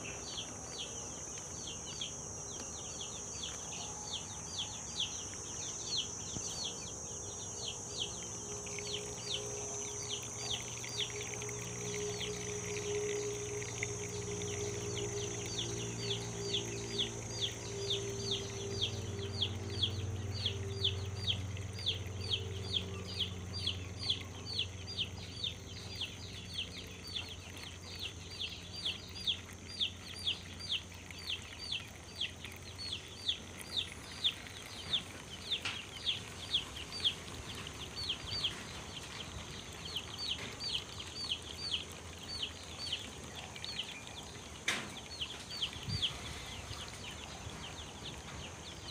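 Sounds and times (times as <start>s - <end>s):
low hum: 0.0s - 48.9s
chicks peeping: 4.5s - 48.9s.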